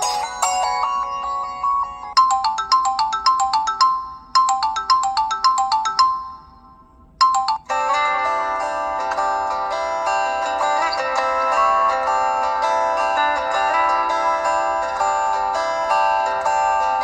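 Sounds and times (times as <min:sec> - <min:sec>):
bell-like ringtone notes: 0:00.0 - 0:17.0
ringtone tune with held chords: 0:00.0 - 0:17.0.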